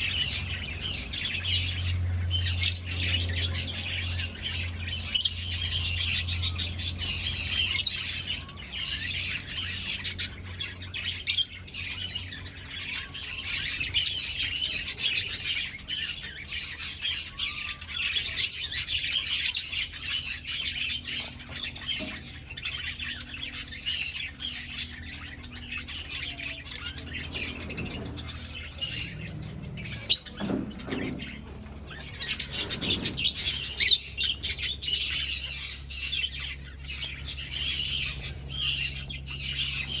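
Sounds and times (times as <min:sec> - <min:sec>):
finches chirping and calling: 0:00.0 - 0:40.0.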